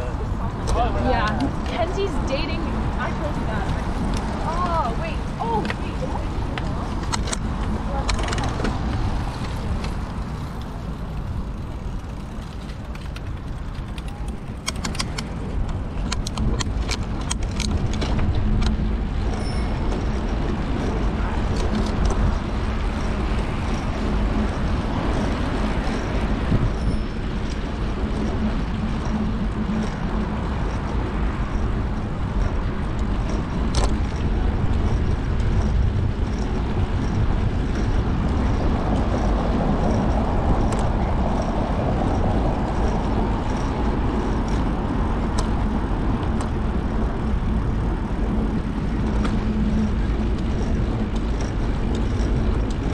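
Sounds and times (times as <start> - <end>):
bicycle tyre noise: 0.0 - 52.9
wind noise on microphone: 0.0 - 52.9.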